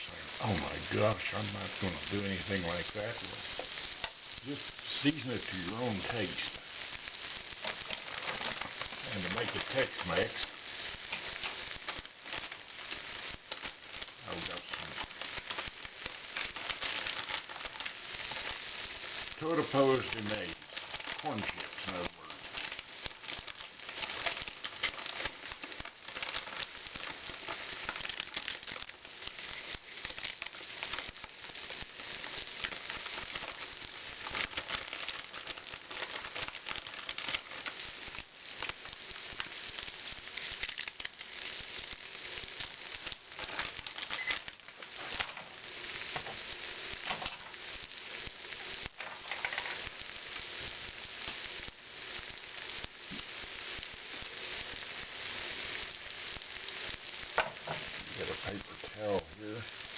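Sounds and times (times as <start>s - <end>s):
food sizzling in a skillet: 0.0s - 59.9s.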